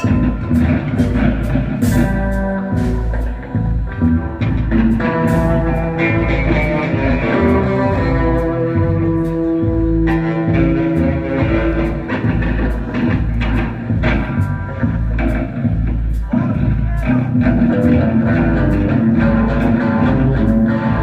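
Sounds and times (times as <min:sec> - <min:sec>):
bass and drum beats: 0:00.0 - 0:21.0
plucked string instrument notes: 0:00.0 - 0:21.0.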